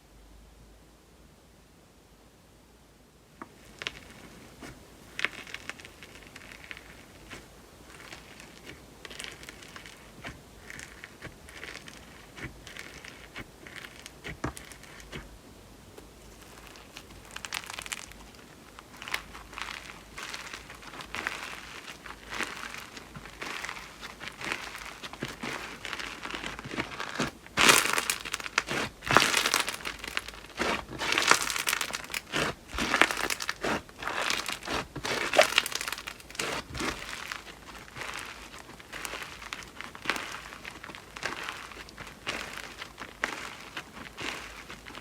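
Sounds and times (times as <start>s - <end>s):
slime crackling and popping: 3.5s - 15.4s, 16.0s - 45.0s.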